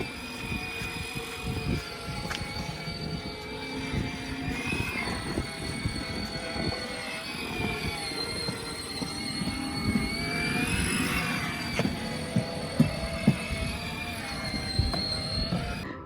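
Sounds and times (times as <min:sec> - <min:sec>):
electric motor and gearbox whining: 0:00.0 - 0:15.9
wheels rattling over ground: 0:00.0 - 0:15.9.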